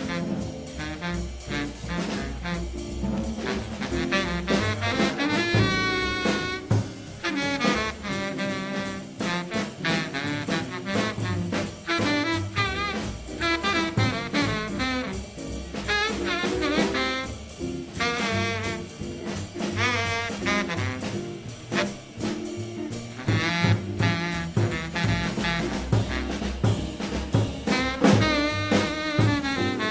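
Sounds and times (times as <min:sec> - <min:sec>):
double bass: 0:00.0 - 0:29.9
drum kit: 0:00.0 - 0:29.9
horn playing fast runs: 0:00.0 - 0:29.9.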